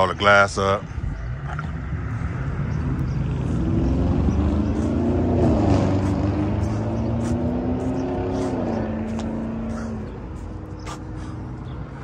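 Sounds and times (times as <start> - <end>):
vehicle engine running: 1.1 - 12.0.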